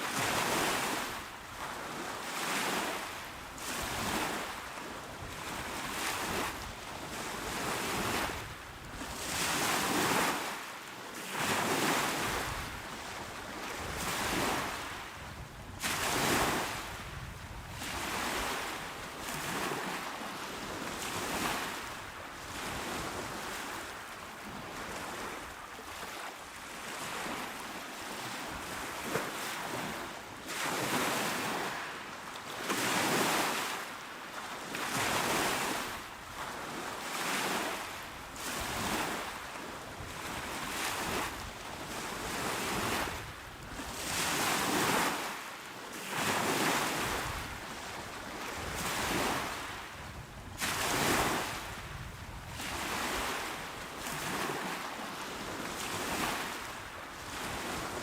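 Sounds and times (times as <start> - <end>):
small waves washing onto shore: 0.0 - 58.0.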